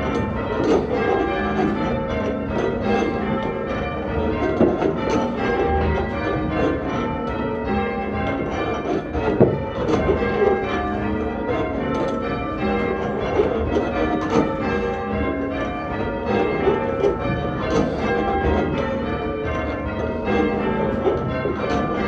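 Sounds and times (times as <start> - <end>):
church bells change ringing: 0.0 - 22.0.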